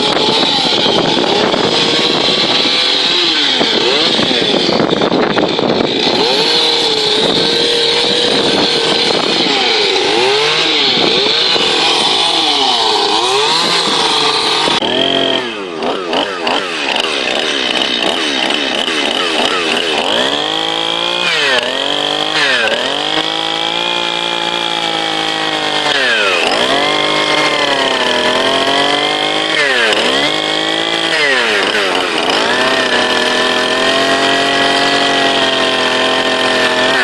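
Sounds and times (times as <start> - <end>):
chainsaw revving carving wood: 0.0 - 37.0.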